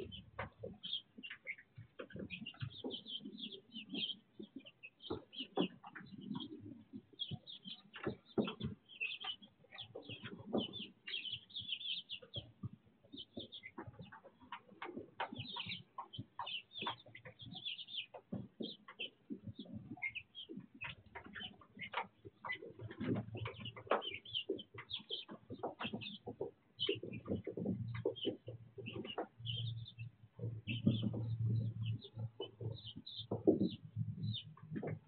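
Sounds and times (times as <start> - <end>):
chicks peeping: 0.0 - 35.0.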